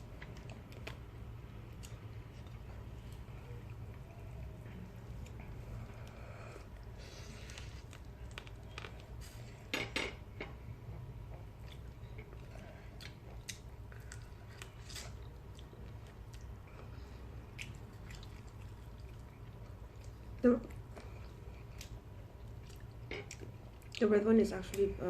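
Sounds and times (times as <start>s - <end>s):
person chewing: 0.0s - 9.4s, 11.5s - 24.0s.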